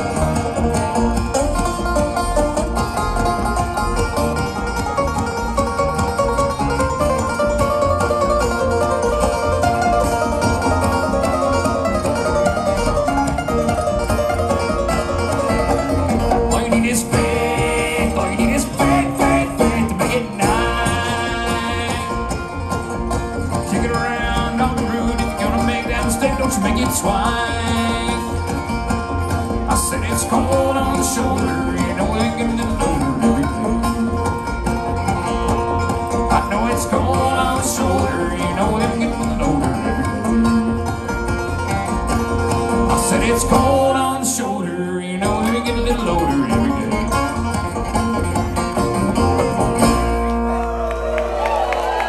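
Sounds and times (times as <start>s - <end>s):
banjo: 0.0s - 52.0s
guitar: 0.0s - 52.0s
mandolin: 0.0s - 52.0s
upright bass: 0.0s - 52.0s.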